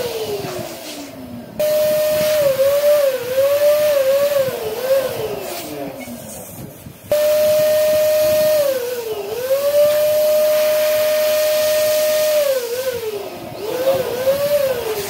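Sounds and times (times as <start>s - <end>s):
balloon pump motor whining: 0.0s - 15.0s
rush of air: 0.0s - 15.0s.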